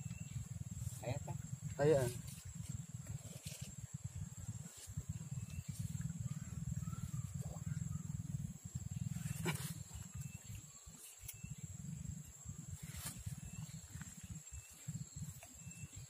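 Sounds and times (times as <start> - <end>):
faint chirps: 0.0 - 16.0
low rumbling outdoor noise: 0.0 - 16.0.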